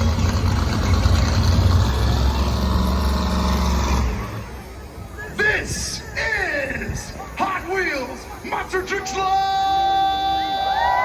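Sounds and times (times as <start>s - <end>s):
monster truck engine rumbling: 0.0s - 9.1s.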